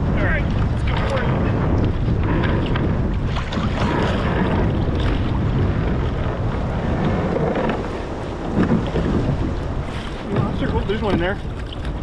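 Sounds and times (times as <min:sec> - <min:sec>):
water sloshing around kayak: 0:00.0 - 0:12.0
wind buffeting microphone: 0:00.0 - 0:12.0.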